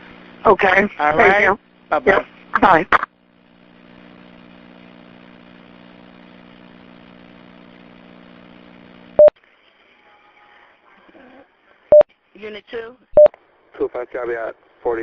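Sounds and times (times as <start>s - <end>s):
telephone line electrical hum: 0.0s - 9.4s, 11.6s - 15.0s.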